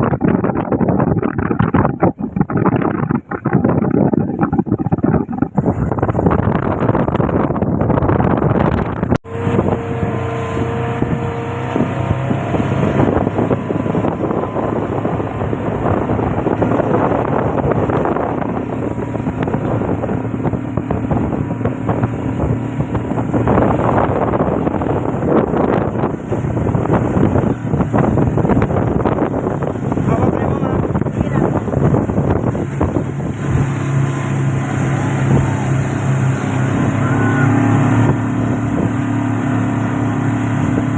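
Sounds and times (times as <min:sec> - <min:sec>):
motorboat engine running: 0:00.0 - 0:40.9
wind buffeting microphone: 0:00.0 - 0:40.9.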